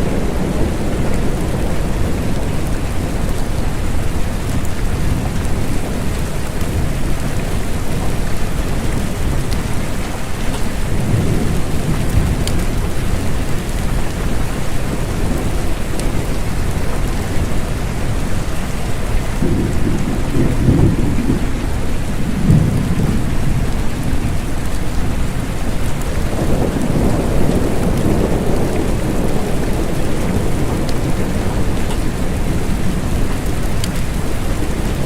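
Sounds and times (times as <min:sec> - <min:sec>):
steady rain falling: 0:00.0 - 0:35.0
thunder rumbling: 0:00.0 - 0:35.0.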